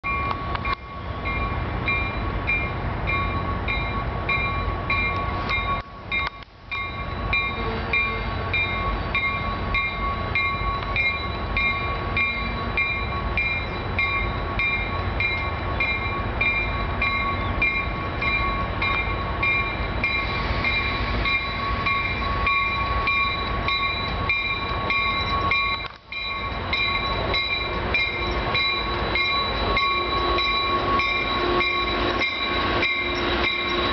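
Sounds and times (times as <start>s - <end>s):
low rumble of train: 0.0s - 33.9s
train bell ringing: 0.0s - 33.9s.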